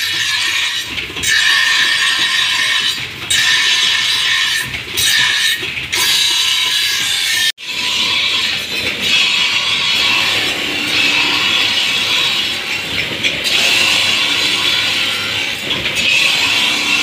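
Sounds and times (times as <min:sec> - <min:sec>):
blade grinding on grinding wheel: 0:00.0 - 0:17.0.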